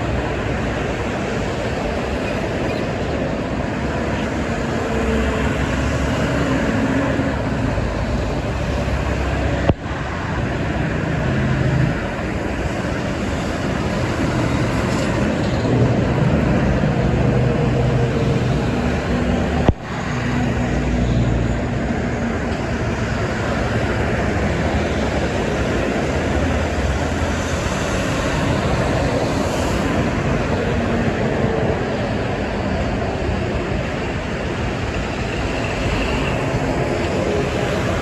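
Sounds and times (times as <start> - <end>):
highway traffic passing: 0.0 - 38.0.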